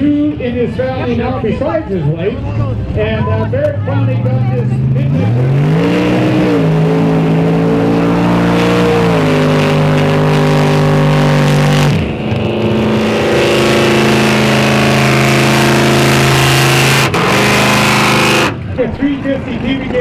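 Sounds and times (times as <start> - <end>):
truck engines at full throttle: 0.0 - 20.0.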